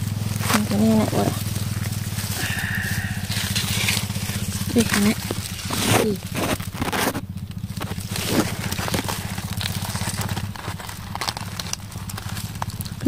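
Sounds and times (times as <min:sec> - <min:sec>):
dry leaves crackling and rustling: 0:00.0 - 0:13.0
steady low hum: 0:00.0 - 0:13.0.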